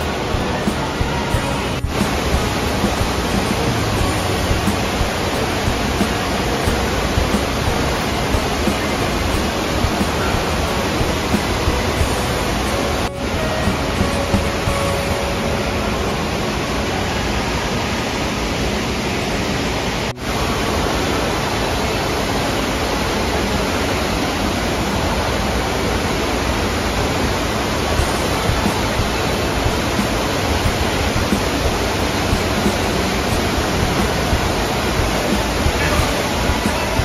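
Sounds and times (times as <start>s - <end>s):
rushing water roar: 0.0s - 37.0s.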